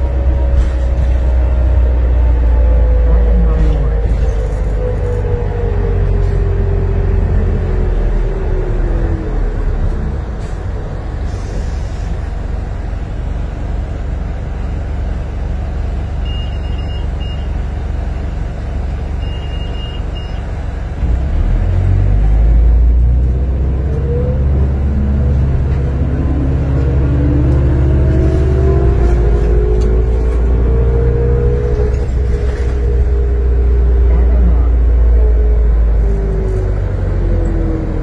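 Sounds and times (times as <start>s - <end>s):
bus engine and road rumble: 0.0s - 38.0s.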